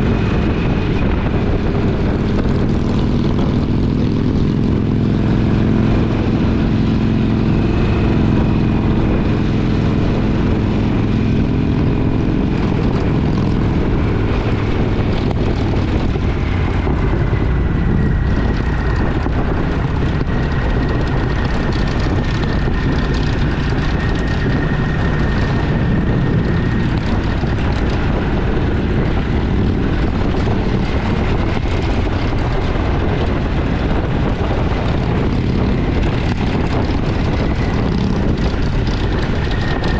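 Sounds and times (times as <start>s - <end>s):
motorcycle engine running: 0.0s - 39.9s
wind rush over microphone: 0.0s - 39.9s.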